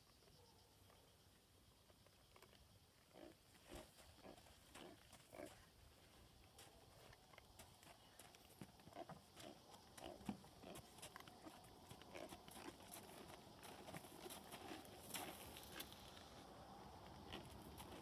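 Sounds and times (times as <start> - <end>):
horse hooves on sand: 3.6 - 18.0.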